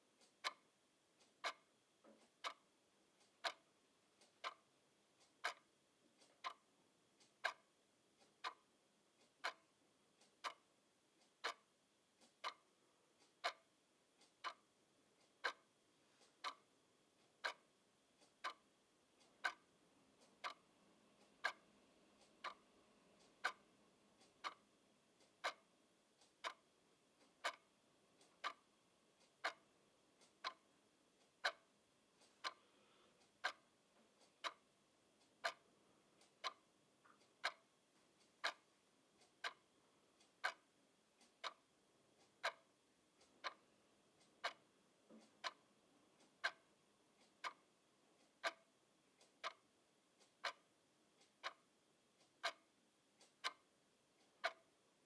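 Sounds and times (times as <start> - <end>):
clock ticking: 0.1 - 55.0.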